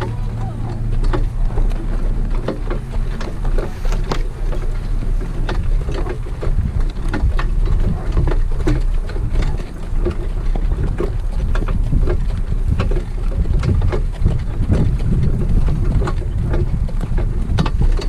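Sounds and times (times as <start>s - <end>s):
horse hoofbeats: 0.0s - 18.0s
wind rumble on microphone: 0.0s - 18.0s.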